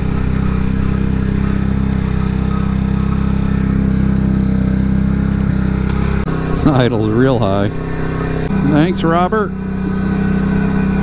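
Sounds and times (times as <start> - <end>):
motorcycle engine idling high: 0.0 - 11.0.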